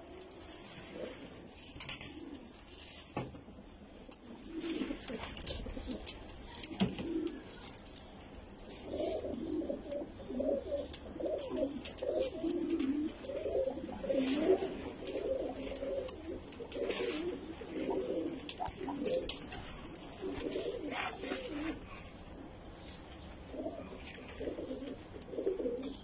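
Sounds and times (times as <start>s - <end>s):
pigeons cooing: 0.0s - 2.9s, 3.5s - 7.7s, 8.6s - 26.0s.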